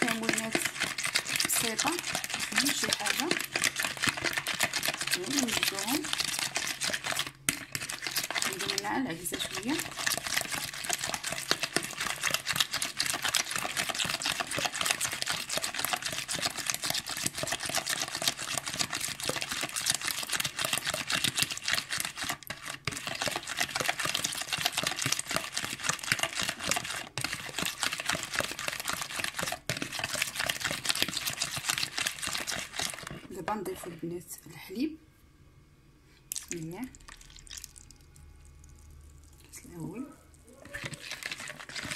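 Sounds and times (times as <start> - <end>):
whisk clattering against bowl: 0.0 - 33.8, 40.6 - 41.9.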